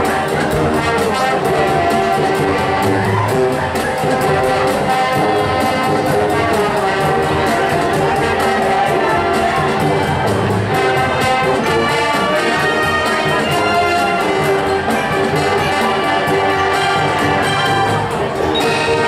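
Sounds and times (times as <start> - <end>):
brass playing chords: 0.0 - 19.0
steady drum beat: 0.0 - 19.0.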